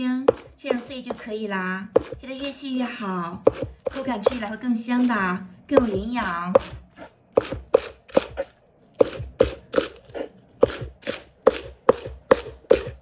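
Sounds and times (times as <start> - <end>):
knife chopping on cutting board: 0.2 - 1.4, 2.0 - 13.0.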